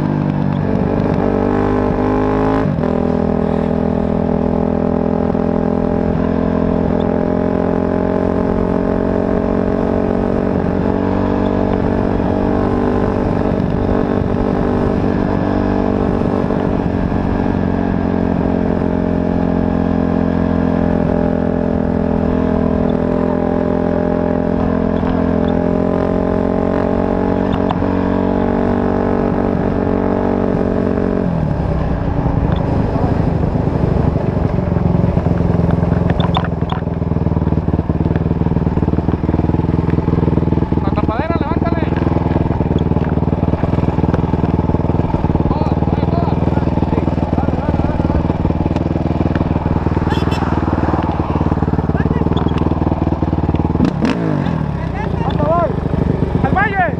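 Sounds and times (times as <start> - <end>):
vehicle engine running steadily: 0.0 - 56.9.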